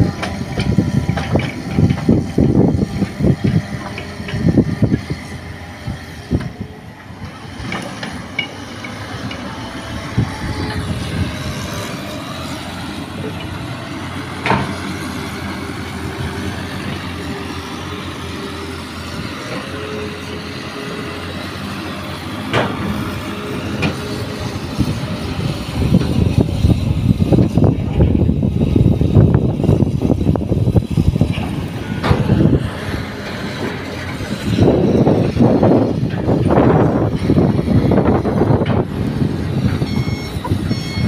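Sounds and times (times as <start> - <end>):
diesel engines running: 0.0 - 41.0.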